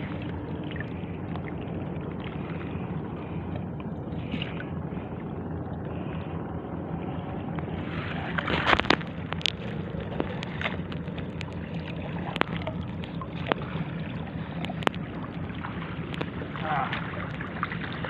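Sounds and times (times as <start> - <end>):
water splashes and knocks: 0.0 - 4.8, 7.6 - 18.0
wind rumble on microphone: 0.0 - 18.0.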